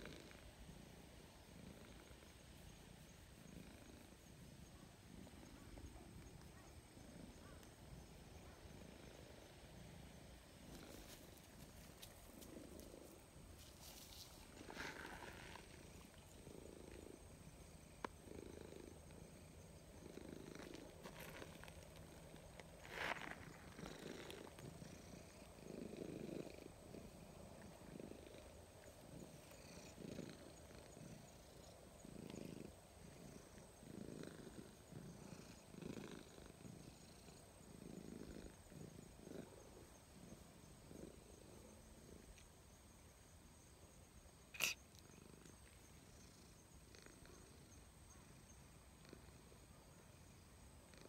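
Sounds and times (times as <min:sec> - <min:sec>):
cat purring: 0:00.0 - 0:42.4, 0:44.6 - 0:51.0.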